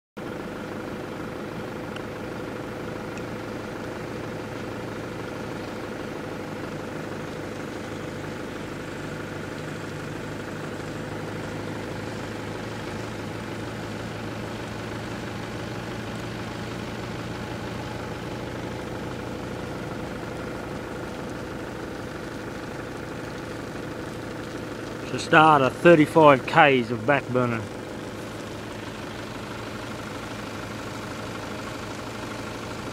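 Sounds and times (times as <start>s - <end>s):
engine idling: 0.2s - 32.9s.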